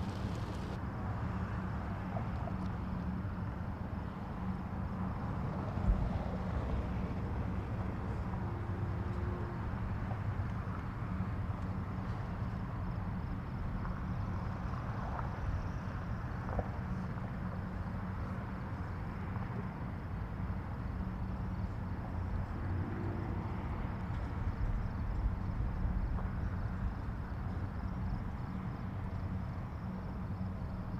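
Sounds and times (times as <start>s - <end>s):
low outdoor rumble: 0.0s - 30.9s.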